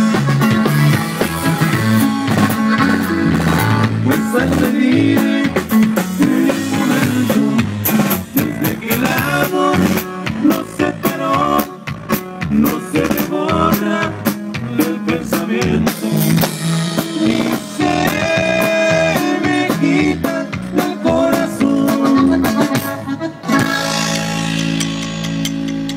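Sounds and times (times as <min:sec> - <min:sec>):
drum kit beat: 0:00.0 - 0:25.9
guitar: 0:00.0 - 0:25.9
live band playing instrumental: 0:00.0 - 0:25.9.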